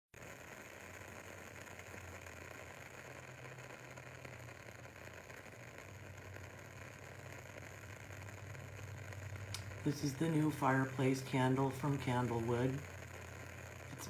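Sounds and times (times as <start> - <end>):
candle wicks crackling: 0.2 - 14.0
steady low hum: 1.1 - 14.0.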